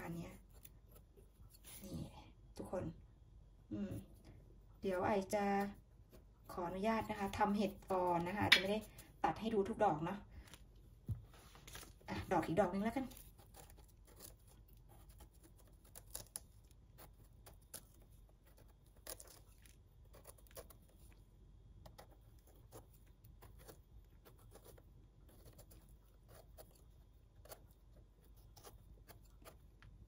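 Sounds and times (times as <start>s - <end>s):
knife scraping mushroom: 0.0s - 2.0s, 4.8s - 9.6s, 11.4s - 21.2s, 21.8s - 30.0s.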